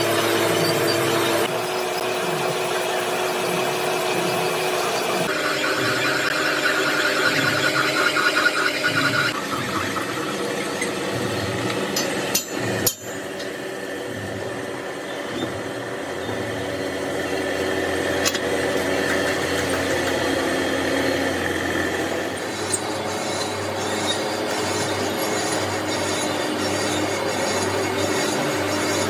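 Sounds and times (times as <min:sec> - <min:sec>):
drill press running: 0:00.0 - 0:29.0.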